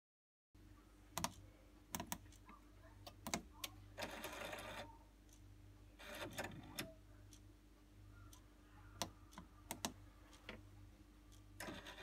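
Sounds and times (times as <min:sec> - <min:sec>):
faint low hum: 0:00.6 - 0:12.0.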